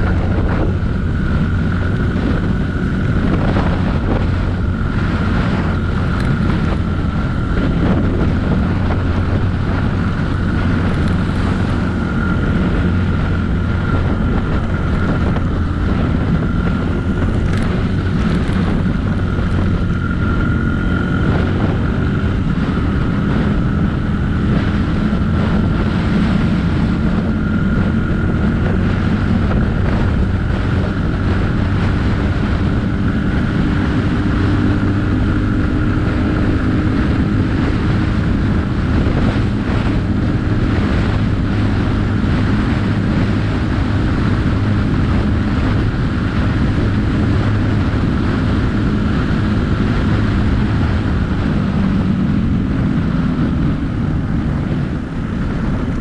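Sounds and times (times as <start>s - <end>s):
dirt bike engine running: 0.0s - 56.0s
wind on microphone: 0.0s - 56.0s.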